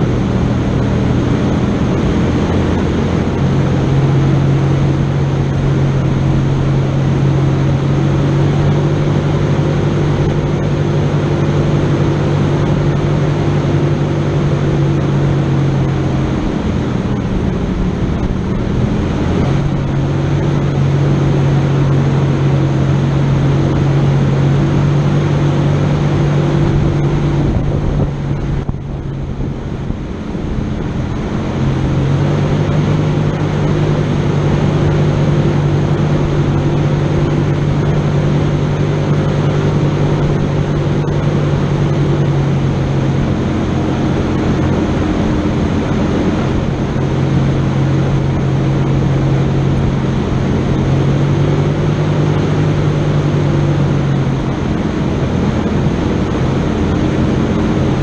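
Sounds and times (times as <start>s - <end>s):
constant rush of noise: 0.0s - 58.0s
engine running under load: 0.0s - 58.0s.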